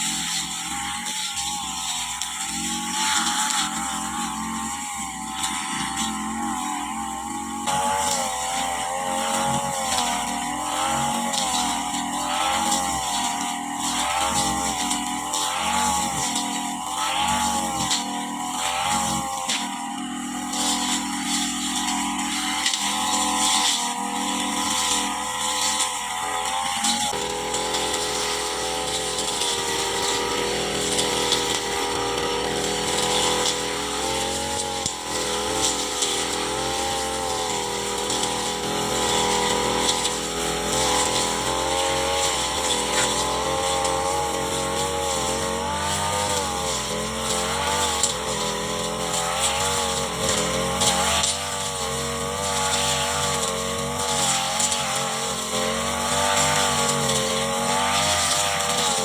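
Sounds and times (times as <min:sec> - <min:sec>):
brush cutter engine cutting grass: 0:00.0 - 0:59.0.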